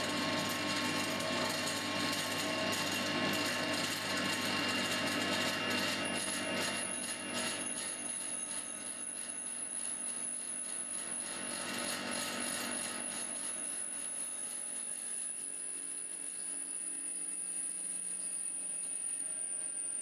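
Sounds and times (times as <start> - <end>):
drill motor hum: 0.0 - 20.0
drill bit grinding into steel: 0.3 - 20.0.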